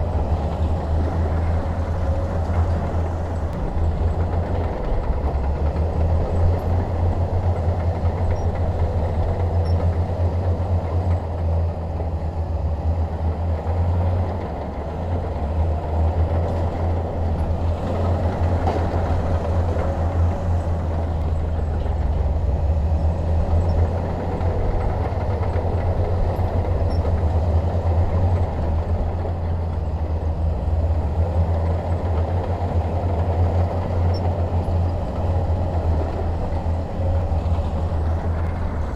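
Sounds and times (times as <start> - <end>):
bulldozer diesel engine rumbling: 0.0 - 38.9.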